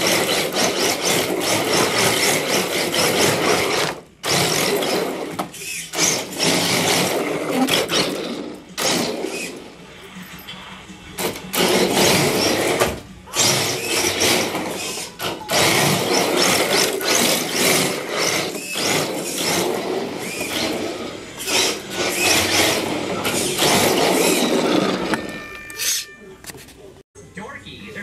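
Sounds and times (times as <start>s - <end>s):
rc car motor and gears whirring: 0.0s - 9.7s, 11.6s - 25.3s.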